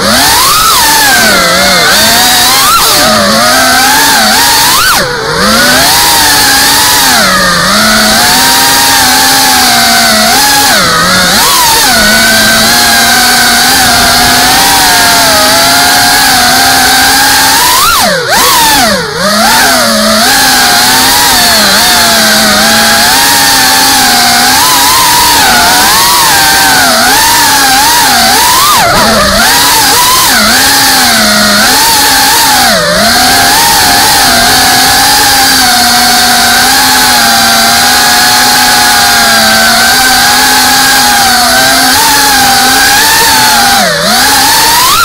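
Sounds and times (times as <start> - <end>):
drone motors whining: 0.0 - 45.0.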